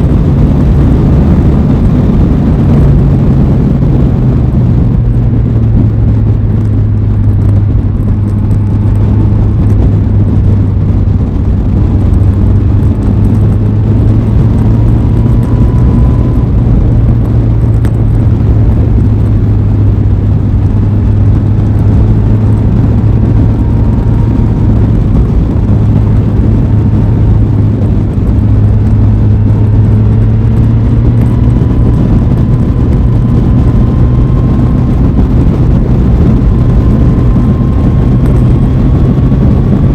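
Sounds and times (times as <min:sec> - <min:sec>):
heavy rushing noise: 0:00.0 - 0:39.9
motorcycle engine drone: 0:00.0 - 0:39.9.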